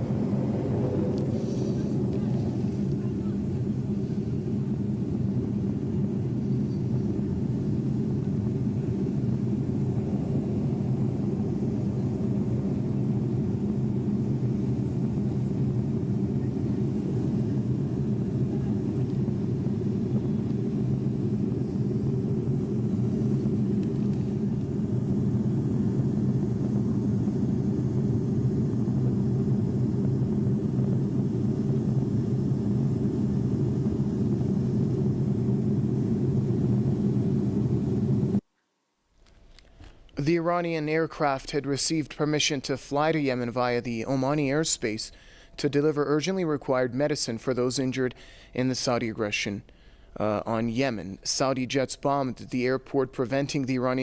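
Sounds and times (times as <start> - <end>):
airliner engine drone: 0.0 - 38.4, 39.3 - 54.0.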